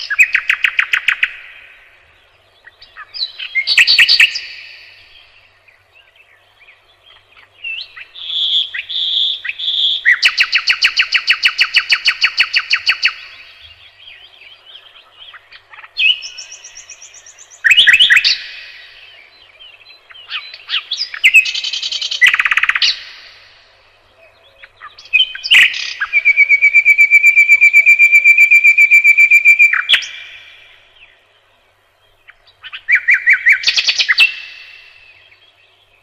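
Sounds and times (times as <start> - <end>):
nightingale singing: 0.0 - 36.0.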